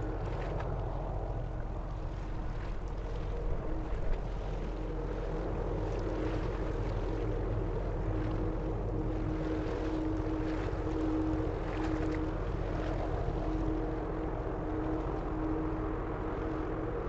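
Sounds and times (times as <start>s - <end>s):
water wash: 0.0s - 17.0s
wind noise on microphone: 0.0s - 17.0s.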